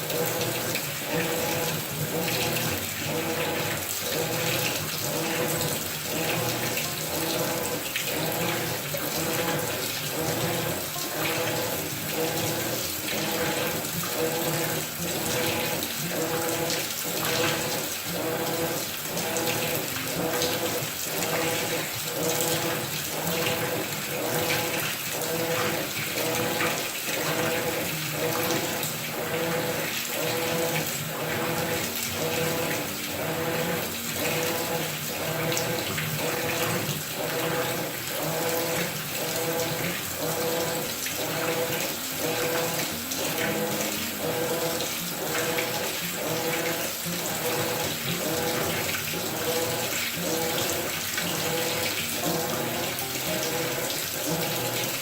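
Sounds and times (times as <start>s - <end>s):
washer motor hum: 0.0s - 55.0s.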